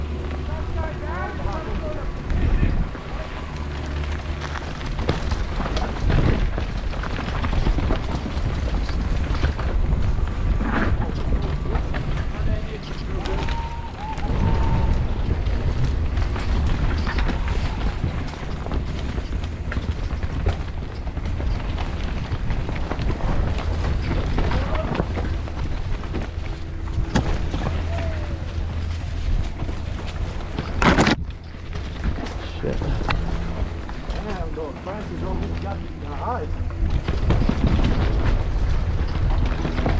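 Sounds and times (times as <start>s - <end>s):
wind rushing over microphone: 0.0s - 39.9s
mountain bike clattering knocks: 3.4s - 39.9s.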